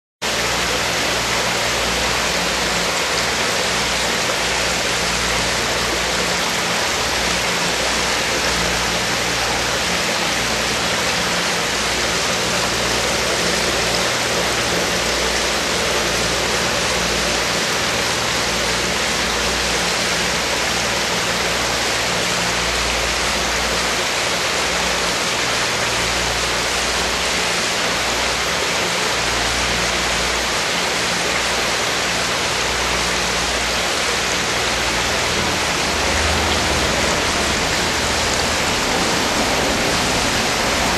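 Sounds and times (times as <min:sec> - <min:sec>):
water rushing into tank: 0:00.3 - 0:40.9.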